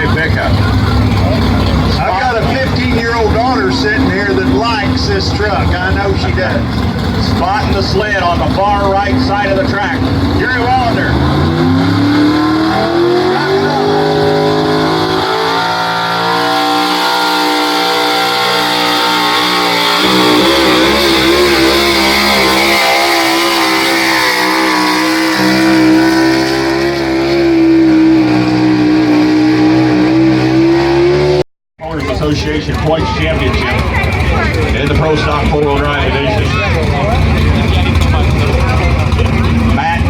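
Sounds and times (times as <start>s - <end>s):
truck engine at full throttle: 0.0s - 40.0s.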